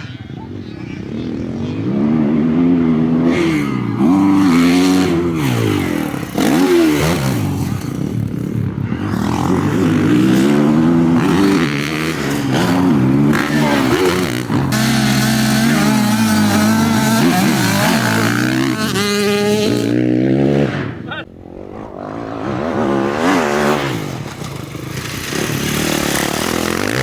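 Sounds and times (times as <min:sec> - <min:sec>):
motocross bike engine revving: 0:00.0 - 0:27.0.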